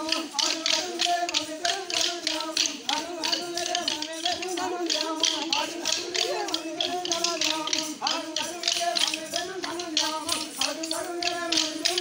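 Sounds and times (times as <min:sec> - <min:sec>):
group of voices chanting: 0:00.0 - 0:12.0
wooden sticks clacking: 0:00.0 - 0:12.0.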